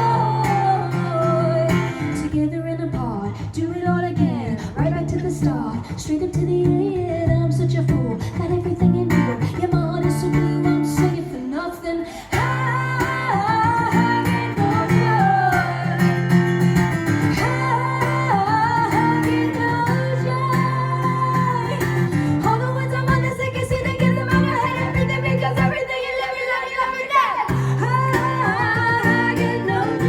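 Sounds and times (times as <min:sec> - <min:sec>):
strummed acoustic guitar: 0:00.0 - 0:11.5, 0:12.1 - 0:25.9, 0:27.5 - 0:30.0
woman singing: 0:00.0 - 0:30.0.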